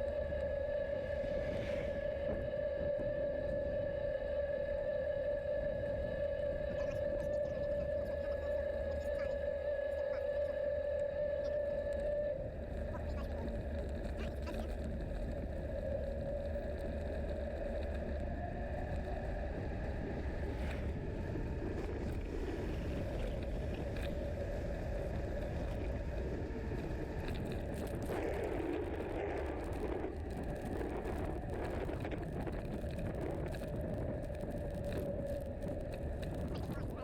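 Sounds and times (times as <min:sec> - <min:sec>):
bicycle tyre noise: 0:00.0 - 0:37.0
constant hum: 0:00.0 - 0:37.0
wind buffeting microphone: 0:00.0 - 0:37.0.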